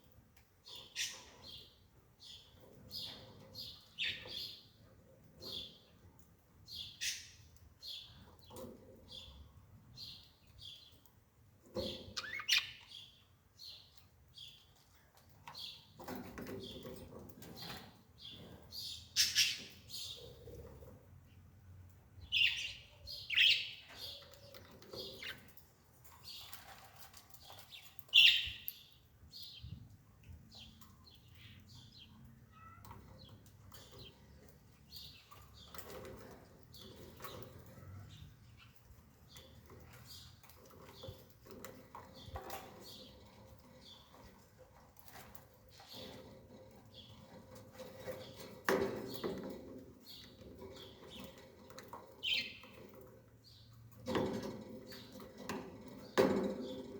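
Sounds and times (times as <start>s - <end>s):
bird chirping: 0.6s - 4.8s, 6.6s - 11.1s, 11.7s - 21.4s, 22.2s - 44.5s, 45.1s - 56.9s.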